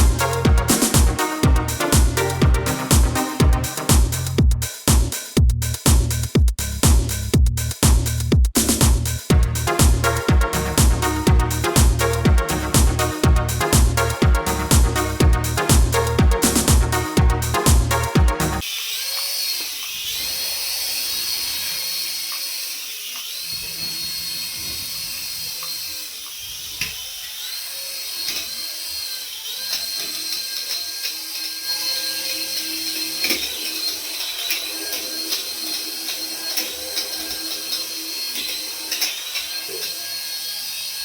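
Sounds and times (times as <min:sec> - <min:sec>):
toy electric motor whining: 0:00.0 - 0:04.3, 0:09.6 - 0:41.0.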